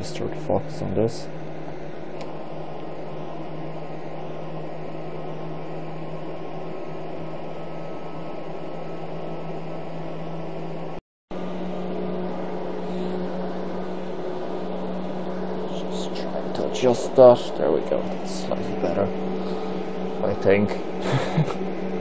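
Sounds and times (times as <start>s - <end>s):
computer cooling fans whooshing: 0.0s - 22.0s
low hum: 0.0s - 22.0s.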